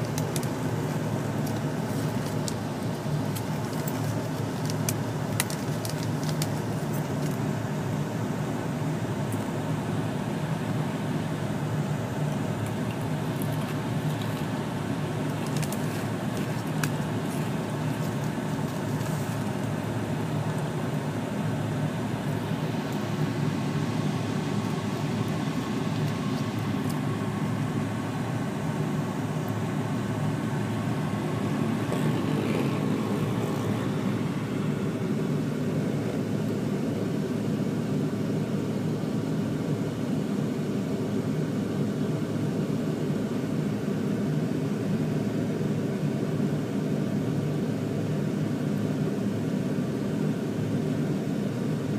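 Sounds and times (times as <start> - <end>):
low engine hum: 0.0 - 51.9.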